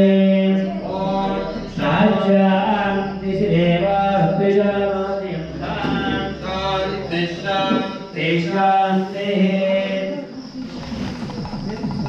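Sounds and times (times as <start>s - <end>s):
male voices chanting: 0.0s - 10.9s
steady low drone: 0.0s - 12.0s.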